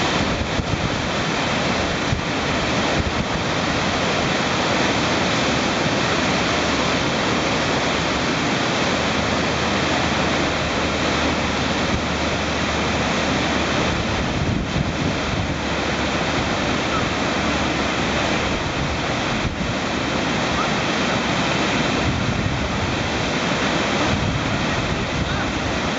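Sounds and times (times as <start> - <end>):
whitewater rushing: 0.0 - 25.9.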